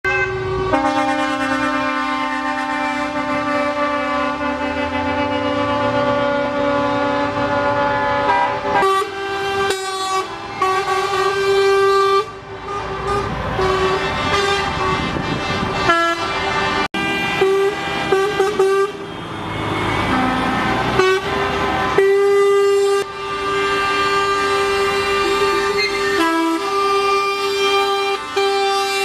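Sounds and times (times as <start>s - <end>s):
truck air horns honking: 0.0s - 29.0s.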